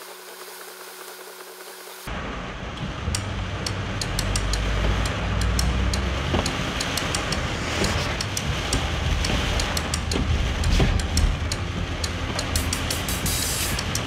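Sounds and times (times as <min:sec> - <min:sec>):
heavy rain on a car: 0:02.1 - 0:14.0
low road rumble: 0:02.1 - 0:14.0
raindrops ticking on glass: 0:02.2 - 0:14.0.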